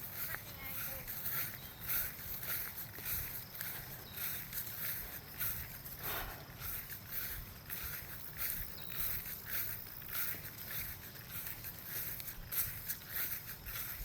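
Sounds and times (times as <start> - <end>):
footsteps on dirt trail: 0.0 - 14.0.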